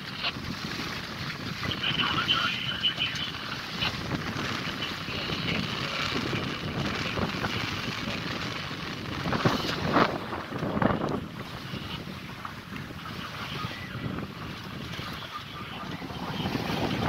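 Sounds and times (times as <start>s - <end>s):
choppy water rushing along hull: 0.0s - 17.0s
wind buffeting microphone: 0.0s - 17.0s.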